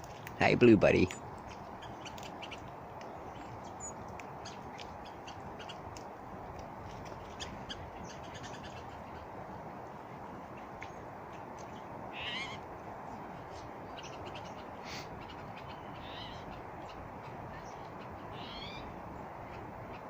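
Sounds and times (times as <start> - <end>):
birds chipping: 0.0 - 20.0
steady background hiss: 0.0 - 20.0.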